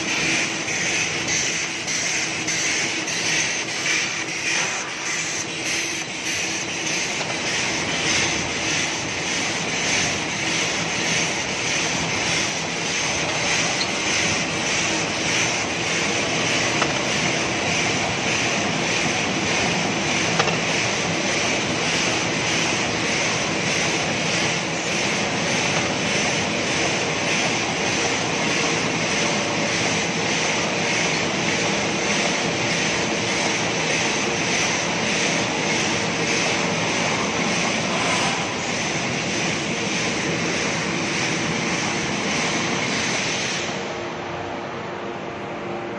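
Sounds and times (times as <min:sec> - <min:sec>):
packaging machine whirring and clattering: 0:00.0 - 0:43.9.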